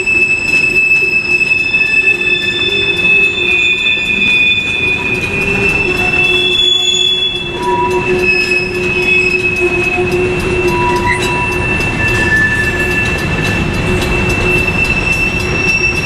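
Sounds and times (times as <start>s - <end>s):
wheel flange squeal: 0.0s - 16.0s.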